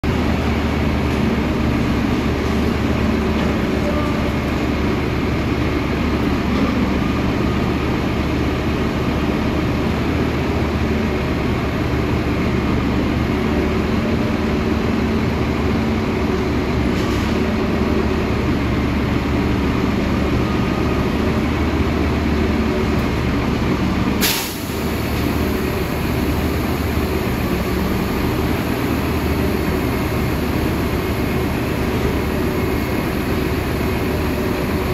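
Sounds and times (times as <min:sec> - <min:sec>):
diesel engines idling in traffic: 0:00.0 - 0:34.9
garbage truck engine: 0:00.0 - 0:34.9.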